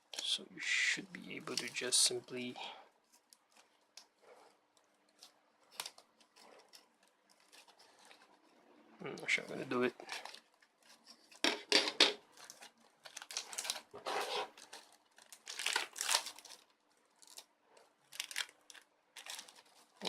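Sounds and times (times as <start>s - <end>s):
plastic crinkling: 1.1s - 11.5s, 12.2s - 20.0s.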